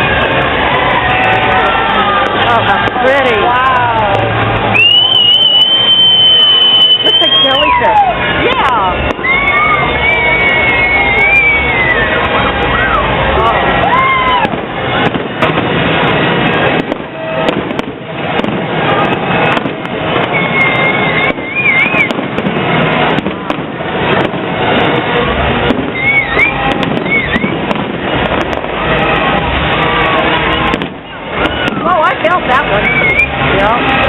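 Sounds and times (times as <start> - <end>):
fireworks crackling and popping: 0.0 - 34.0
firework whistle: 4.5 - 34.0.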